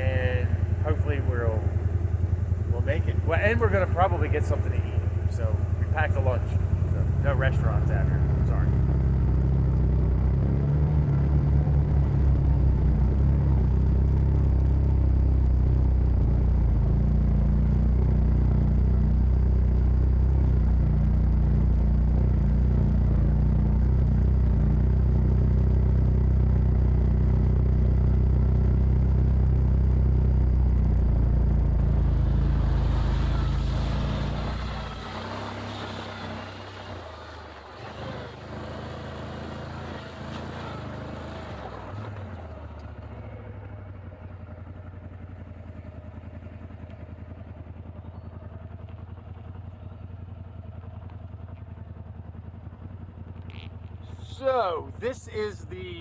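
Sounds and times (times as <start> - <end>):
off-road vehicle engine droning: 0.0 - 56.0.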